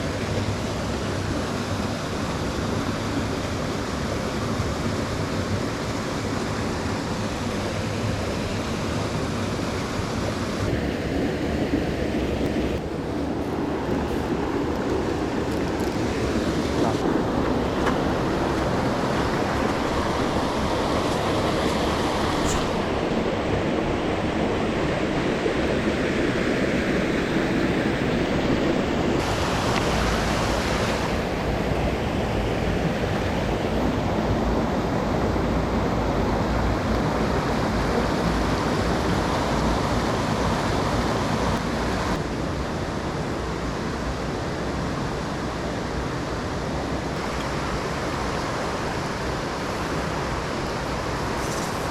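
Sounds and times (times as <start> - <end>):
mountain stream rushing: 0.0 - 51.9.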